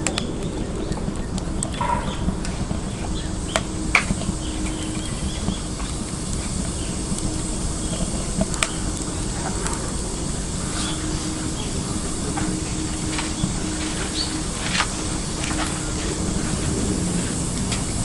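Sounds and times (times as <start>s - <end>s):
steady rushing of stove fire: 0.0s - 18.0s
wood fire crackling: 0.0s - 18.0s.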